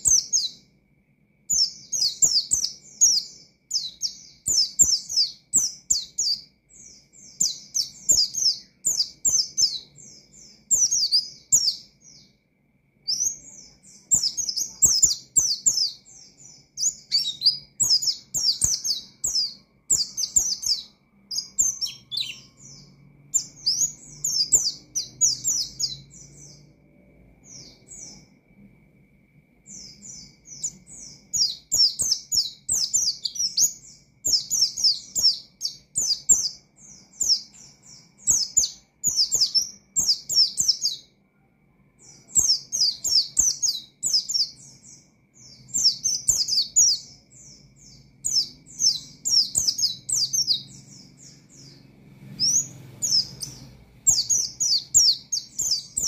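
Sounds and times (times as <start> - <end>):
bird twittering song: 0.0 - 28.8, 29.6 - 56.0.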